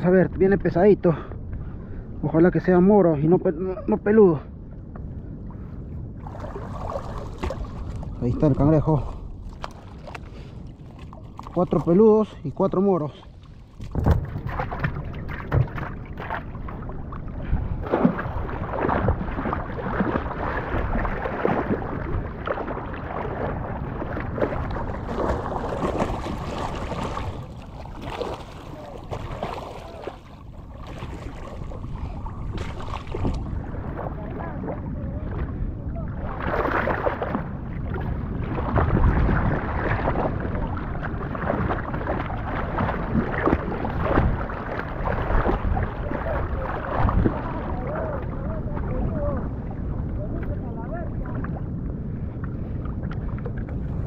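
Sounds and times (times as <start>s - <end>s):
wind buffeting microphone: 0.0s - 54.0s
surf washing and splashing: 5.6s - 54.0s.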